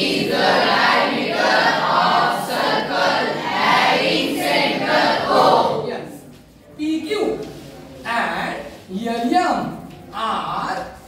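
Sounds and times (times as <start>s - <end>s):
children reading aloud in unison: 0.0s - 6.3s, 7.3s - 11.0s.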